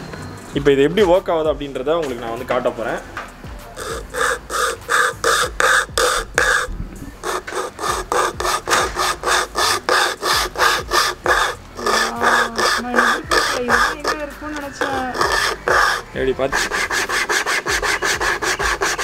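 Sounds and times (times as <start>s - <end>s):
wire saw rasping through branch: 3.8s - 19.0s.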